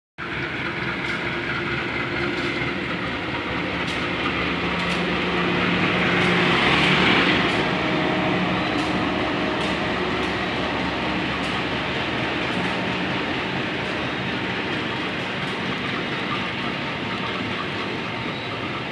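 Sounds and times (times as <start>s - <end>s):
moving train noise: 0.2s - 18.9s
train engine hum: 0.2s - 18.9s
train wheel clicks: 0.2s - 18.9s.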